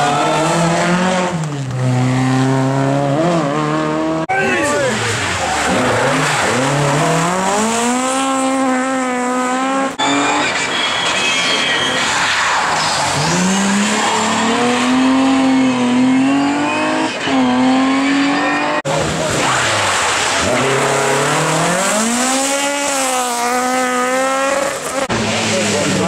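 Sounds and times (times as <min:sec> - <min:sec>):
rally car engines revving hard: 0:00.0 - 0:26.0.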